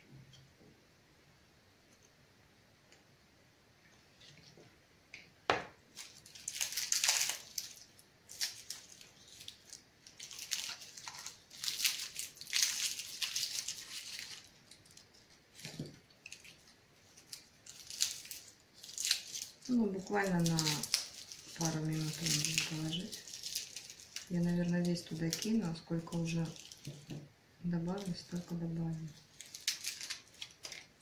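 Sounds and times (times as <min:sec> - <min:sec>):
garlic skins crackling: 0:05.9 - 0:31.0.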